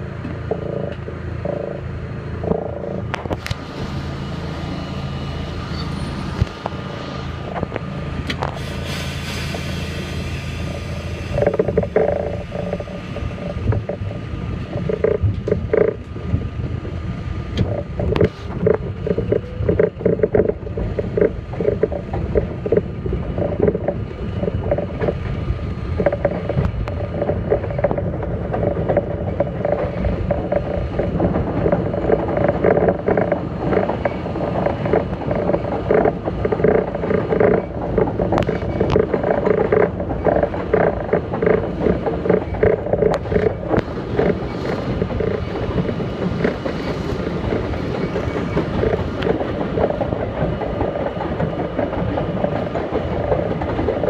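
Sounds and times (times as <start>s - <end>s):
subway train wheels rumbling: 0.0s - 54.0s
wheels clacking over rail joints: 0.0s - 54.0s.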